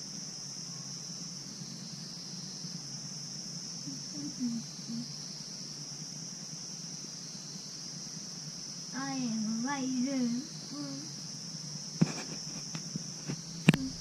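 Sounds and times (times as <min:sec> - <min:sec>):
insects droning: 0:00.0 - 0:14.0
low steady hum: 0:00.0 - 0:14.0.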